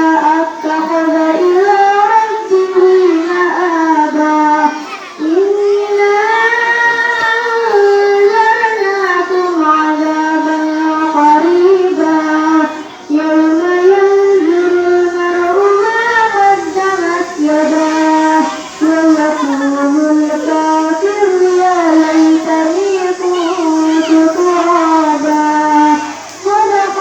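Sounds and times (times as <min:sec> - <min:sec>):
girl chanting melodic recitation: 0:00.0 - 0:27.0.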